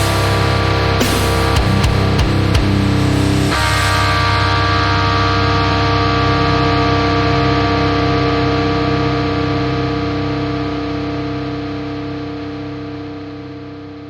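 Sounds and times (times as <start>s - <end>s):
distorted electric guitar chord: 0.0s - 14.0s.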